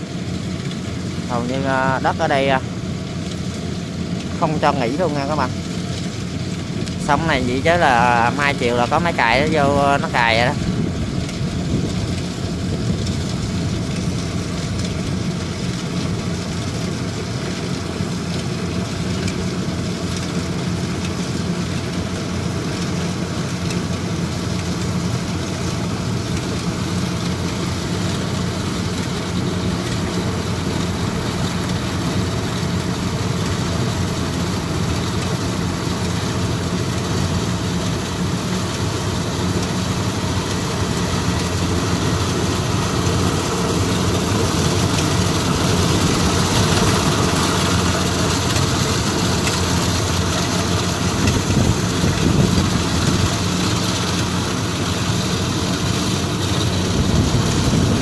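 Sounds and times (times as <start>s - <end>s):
combine harvester engine droning: 0.0s - 58.0s.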